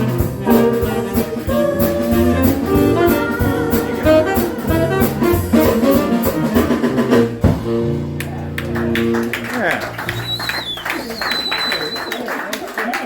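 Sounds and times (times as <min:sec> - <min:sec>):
tenor saxophone: 0:00.0 - 0:11.0
swing jazz band playing: 0:00.0 - 0:12.4.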